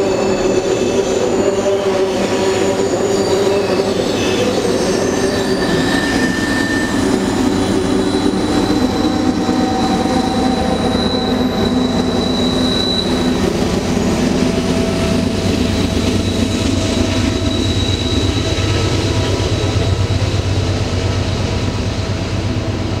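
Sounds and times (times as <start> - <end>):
high wheel squeals: 0.0 - 20.2
train wheels rumbling on rails: 0.0 - 23.0.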